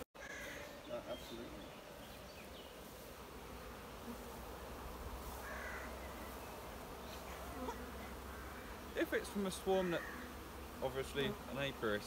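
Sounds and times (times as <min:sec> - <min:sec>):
bee swarm buzzing: 0:00.2 - 0:12.0.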